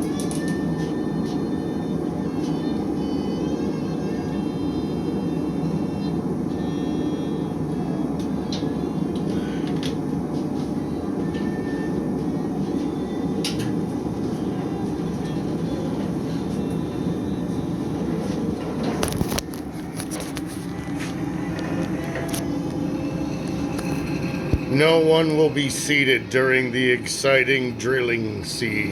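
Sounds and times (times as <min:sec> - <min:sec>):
shop machinery rumbling: 0:00.0 - 0:28.9.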